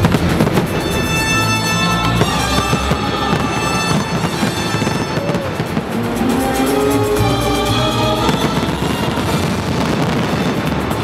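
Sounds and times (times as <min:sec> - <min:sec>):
fireworks crackling and popping: 0:00.0 - 0:11.0
loud music with long held notes: 0:00.0 - 0:11.0.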